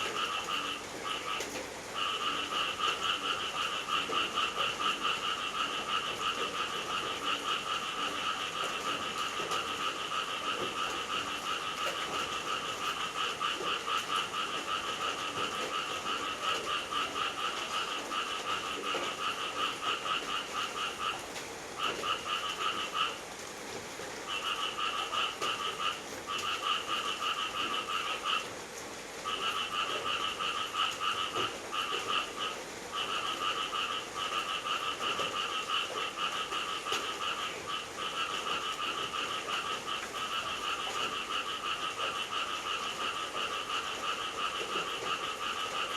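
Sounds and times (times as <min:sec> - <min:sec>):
frogs trilling chorus: 0:00.0 - 0:23.4, 0:24.2 - 0:45.9.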